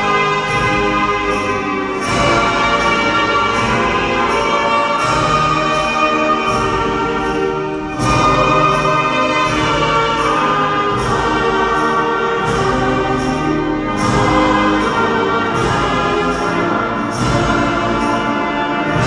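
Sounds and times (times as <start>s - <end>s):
hymn sung with instruments: 0.0s - 19.0s.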